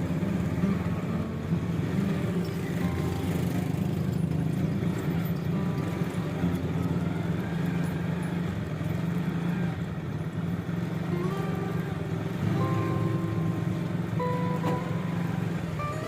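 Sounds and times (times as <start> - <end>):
street traffic: 0.0 - 16.0
vehicle engine: 0.0 - 16.0.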